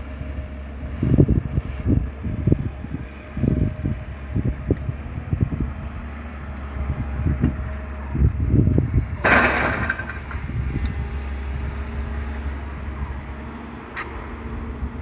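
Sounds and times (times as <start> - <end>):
excavator and truck rumbling: 0.0 - 15.0.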